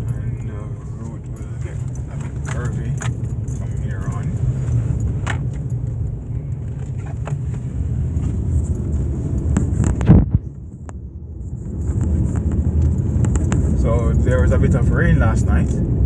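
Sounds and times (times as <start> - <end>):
car road noise on rough road: 0.0 - 16.0.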